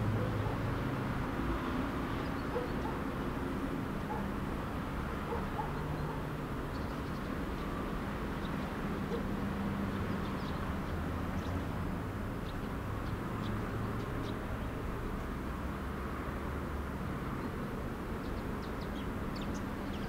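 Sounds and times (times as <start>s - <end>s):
distant engine hum: 0.0s - 20.0s.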